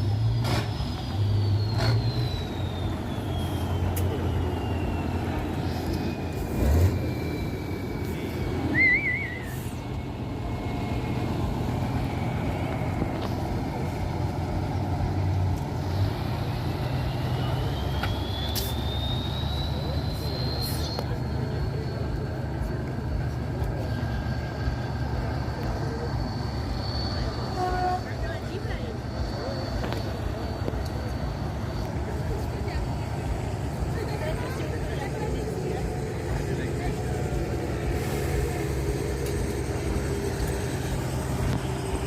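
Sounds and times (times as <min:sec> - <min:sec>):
diesel truck engine with whine: 0:00.0 - 0:42.0.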